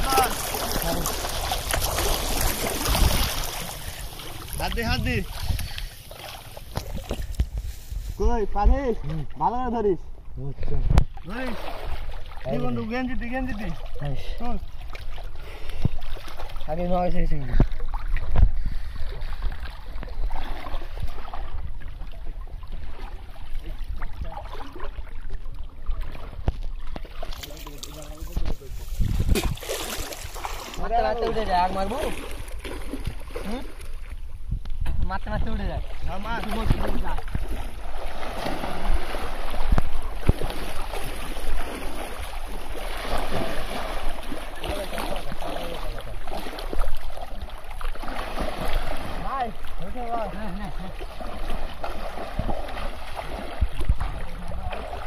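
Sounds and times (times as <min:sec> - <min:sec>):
water sloshing and dripping: 0:00.0 - 0:08.2, 0:10.5 - 0:35.0, 0:35.8 - 0:55.0.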